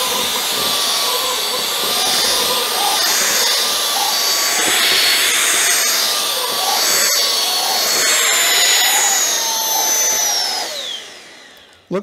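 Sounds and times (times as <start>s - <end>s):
vacuum cleaner motor whine: 0.0s - 12.0s.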